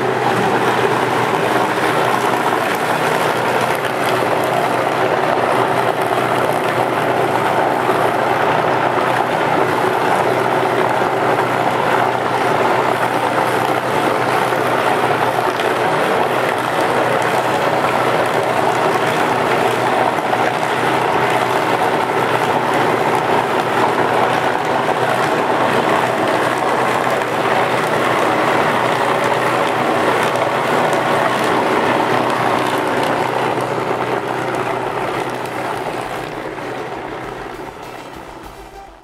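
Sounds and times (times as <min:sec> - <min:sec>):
bowl cutter mechanical whir: 0:00.0 - 0:39.0.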